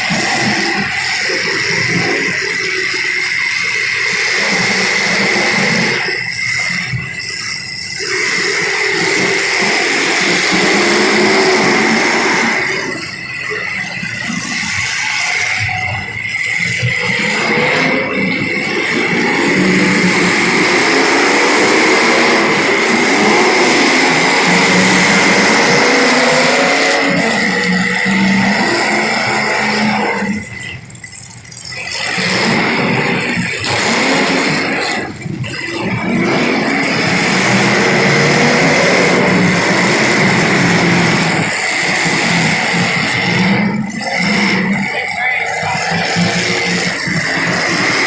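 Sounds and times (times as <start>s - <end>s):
small race car engines: 0.0s - 48.0s.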